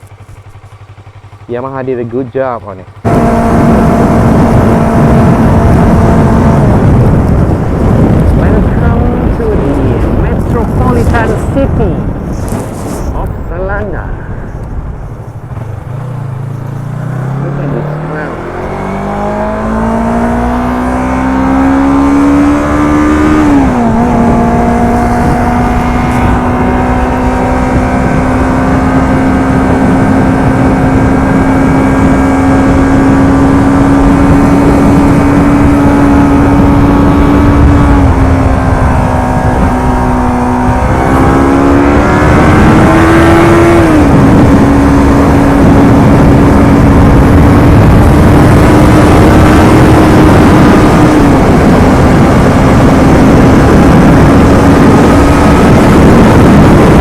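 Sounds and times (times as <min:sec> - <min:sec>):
motorcycle engine shifting gears: 0:00.0 - 0:13.7, 0:14.4 - 0:57.0
road and wind noise: 0:00.0 - 0:57.0.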